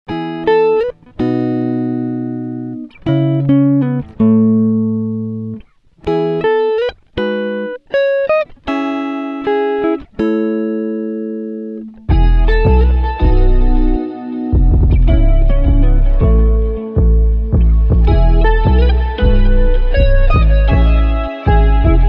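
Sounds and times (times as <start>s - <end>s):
plucked guitar chords: 0.1s - 22.0s.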